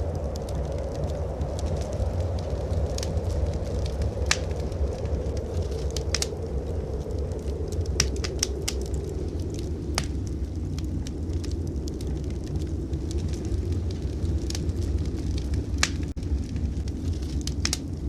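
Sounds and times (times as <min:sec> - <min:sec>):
blizzard wind rushing: 0:00.0 - 0:18.0
wood fire crackling and popping: 0:00.0 - 0:18.0.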